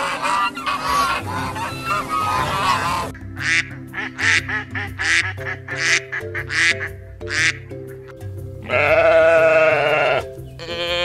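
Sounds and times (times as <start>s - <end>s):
ducks quacking: 0.0s - 11.0s
geese honking: 0.0s - 11.0s.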